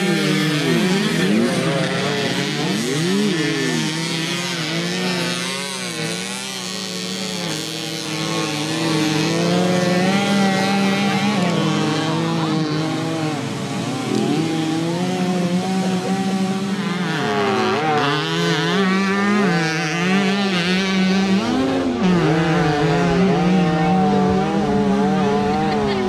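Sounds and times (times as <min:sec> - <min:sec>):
moped engines revving: 0:00.0 - 0:26.0.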